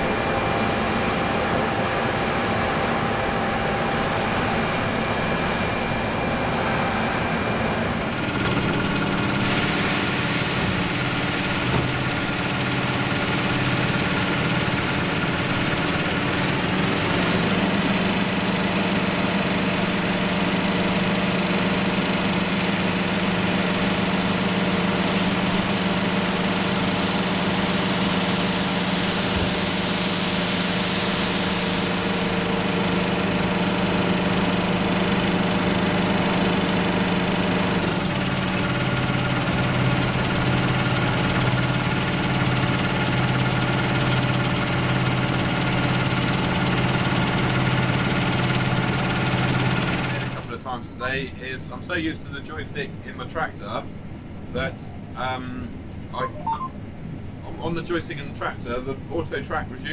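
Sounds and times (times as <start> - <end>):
tractor diesel engine running: 0.0 - 50.6.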